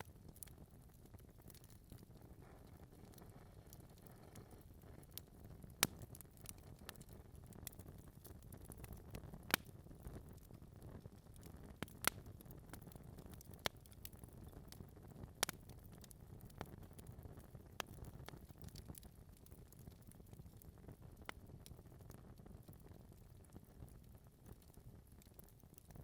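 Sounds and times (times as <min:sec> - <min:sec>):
crackles and pops of logs: 0:00.0 - 0:26.0
low rumble of flames: 0:00.0 - 0:26.0.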